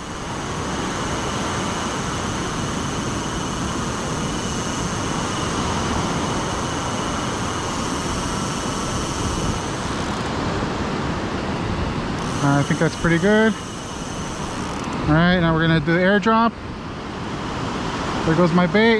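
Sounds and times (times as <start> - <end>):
breaking surf: 0.0 - 15.8
wind buffeting microphone: 0.0 - 15.9
faint high whine: 0.0 - 18.9.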